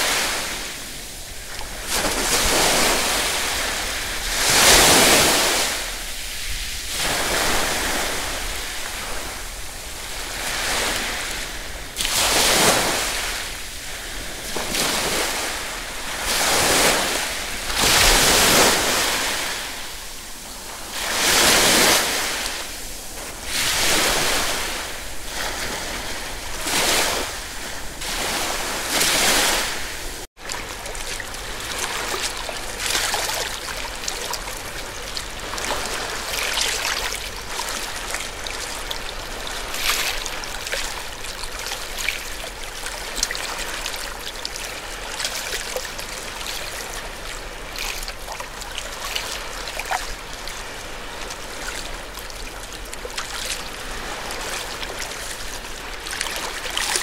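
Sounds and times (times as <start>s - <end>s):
sea waves washing in: 0.0s - 57.0s
water splashes and trickles: 0.0s - 57.0s.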